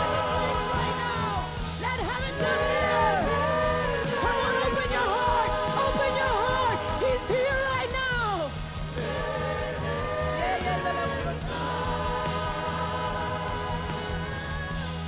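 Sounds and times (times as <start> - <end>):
band chords: 0.0 - 15.0
steady bass: 0.0 - 15.0.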